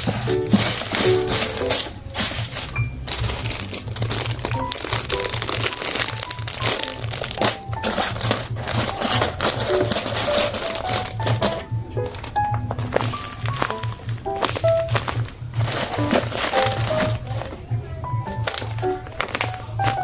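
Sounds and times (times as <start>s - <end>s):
bouncy background music: 0.0s - 20.0s
paper and tape crinkling: 0.0s - 20.0s.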